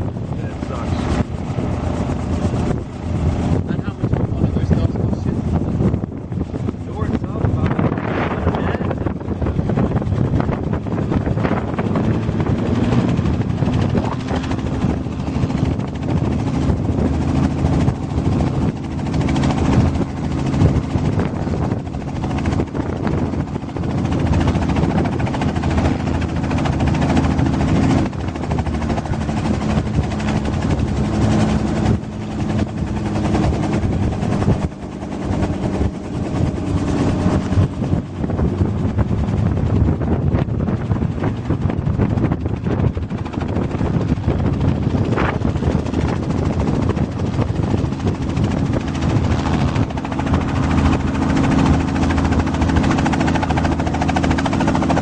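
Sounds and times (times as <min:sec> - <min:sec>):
helicopter rotor and engine: 0:00.0 - 0:55.0.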